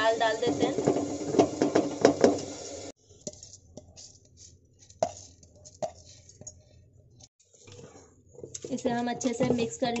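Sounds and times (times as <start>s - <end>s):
wooden spatula scraping: 0.2s - 9.7s.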